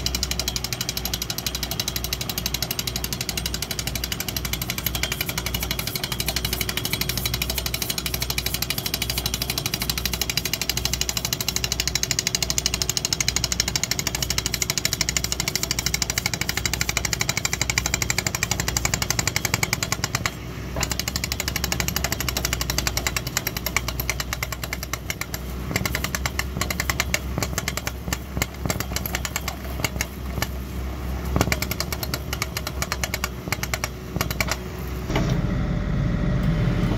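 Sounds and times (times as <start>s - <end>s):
rig hammering steel rod: 0.0s - 30.6s, 31.3s - 34.8s
excavator engine: 0.0s - 36.9s.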